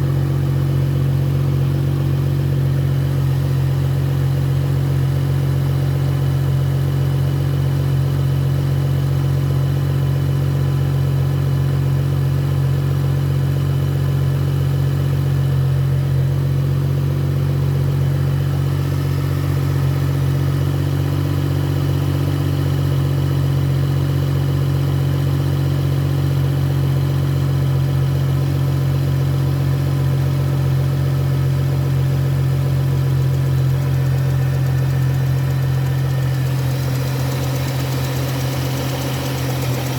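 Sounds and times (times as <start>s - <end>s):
car engine idling: 0.0s - 39.9s
engine rattling: 0.0s - 39.9s.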